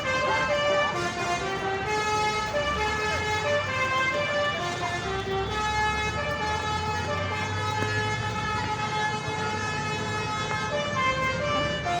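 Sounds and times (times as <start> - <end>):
bus engine rumble: 0.0 - 12.0
multi-tone bus horn tune: 0.0 - 12.0.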